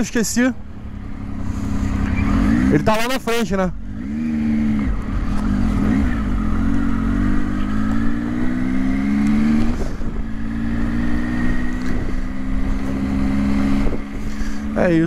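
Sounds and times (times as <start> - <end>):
motorcycle engine accelerating: 0.6 - 15.0.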